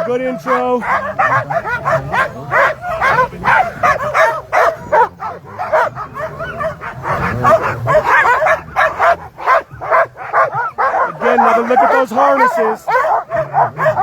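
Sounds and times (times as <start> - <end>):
sled dogs barking and yelping: 0.0 - 14.0.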